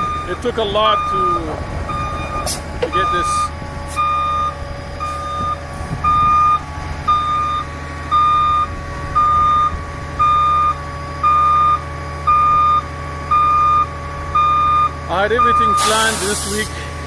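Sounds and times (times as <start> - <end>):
diesel engines droning: 0.0 - 17.0
truck reversing alarm beeping: 0.0 - 17.0.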